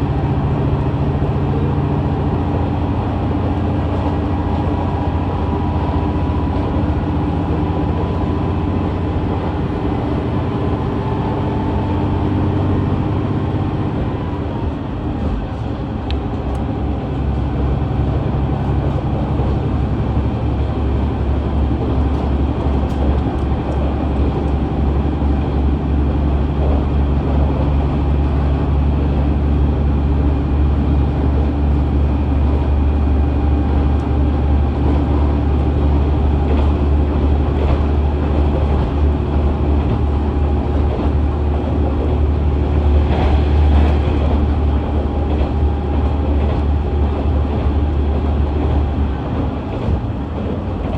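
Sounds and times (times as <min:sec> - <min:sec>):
diesel railcar engine drone: 0:00.0 - 0:50.9.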